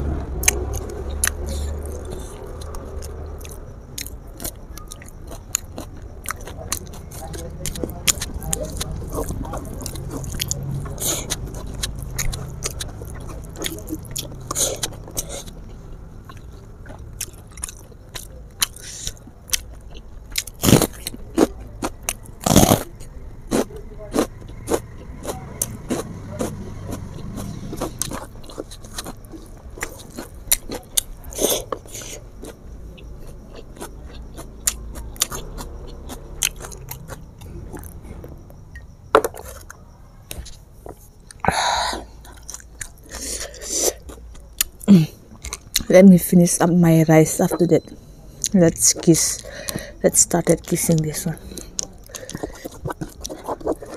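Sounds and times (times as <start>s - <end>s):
person chewing food: 0.2s - 46.0s, 47.4s - 53.9s.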